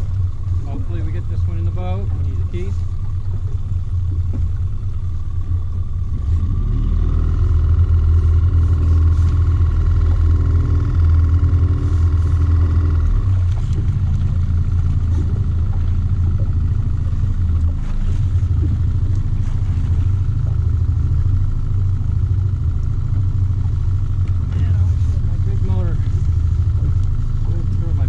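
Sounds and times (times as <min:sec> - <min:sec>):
outboard motor humming: 0:00.0 - 0:28.0.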